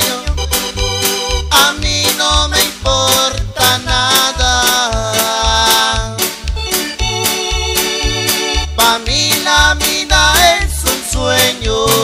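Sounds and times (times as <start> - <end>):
latin dance band music: 0.0 - 12.0.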